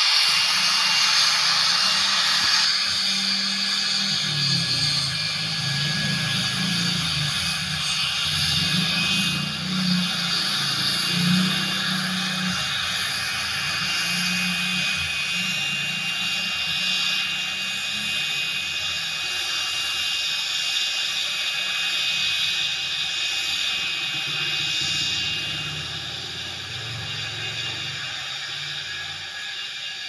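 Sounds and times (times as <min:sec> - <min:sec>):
jet engines whining at low thrust: 0:00.0 - 0:30.0.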